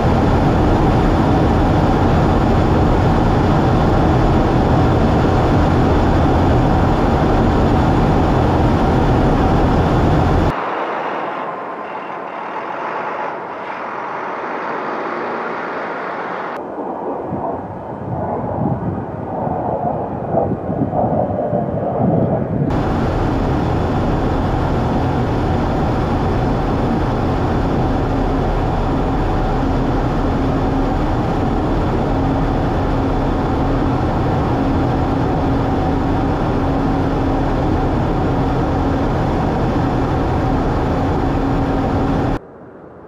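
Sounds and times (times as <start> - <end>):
distant jet noise: 0.0 - 43.0
jet cockpit engine roar: 0.0 - 43.0
low hum: 0.0 - 43.0.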